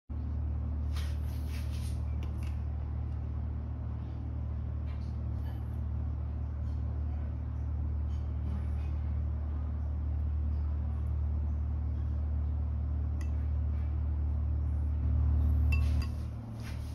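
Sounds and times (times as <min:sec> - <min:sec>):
low hum: 0:00.1 - 0:16.9.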